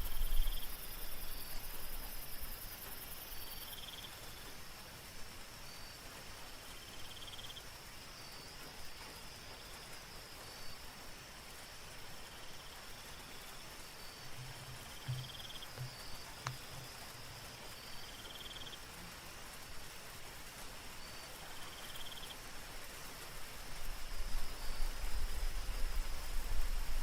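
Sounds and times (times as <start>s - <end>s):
insect trill: 0.0s - 4.7s, 5.7s - 26.8s
insects high-pitched drone: 0.0s - 27.0s
soft steady rain: 0.0s - 27.0s.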